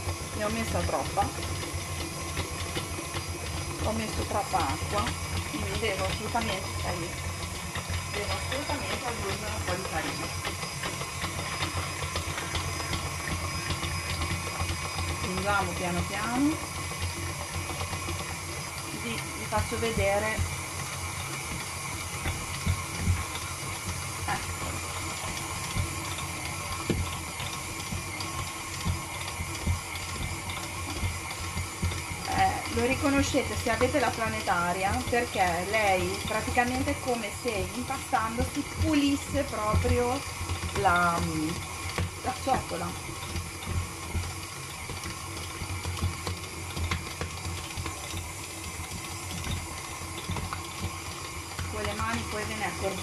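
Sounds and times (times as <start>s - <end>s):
stand mixer motor hum: 0.0s - 53.0s.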